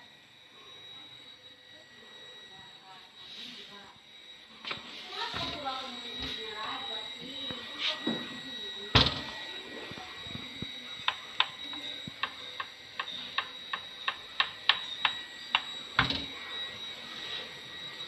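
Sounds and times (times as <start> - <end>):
faint high-pitched tone: 0.0 - 18.0.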